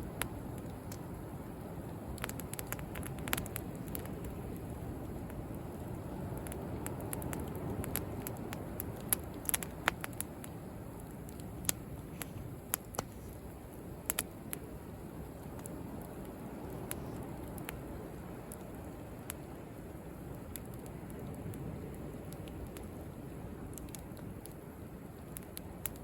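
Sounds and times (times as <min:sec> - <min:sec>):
wood bonfire crackling: 0:00.0 - 0:26.0.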